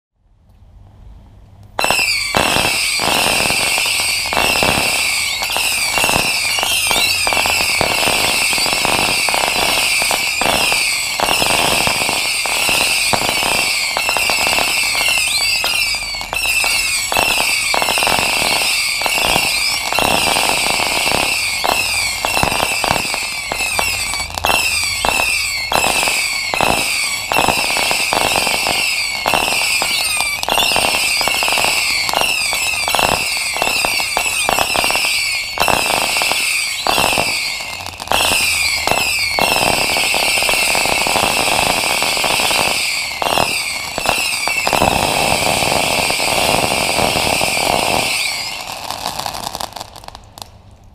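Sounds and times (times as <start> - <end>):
firework whistles falling in pitch: 1.8 - 50.2
firework launch bangs: 1.8 - 50.5.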